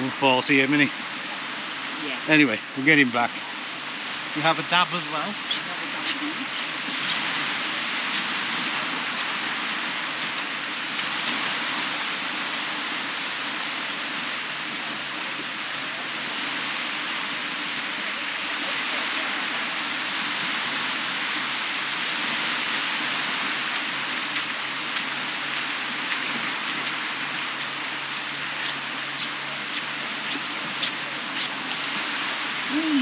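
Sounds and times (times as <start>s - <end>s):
small waves breaking on shore: 0.0s - 33.0s.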